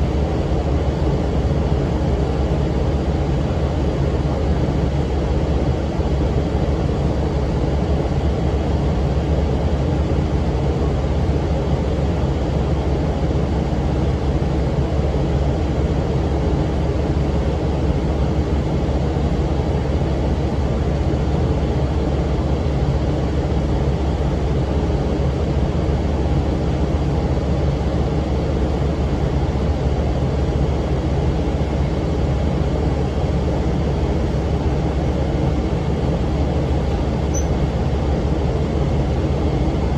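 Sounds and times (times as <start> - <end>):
engine cooling fan: 0.0 - 39.9.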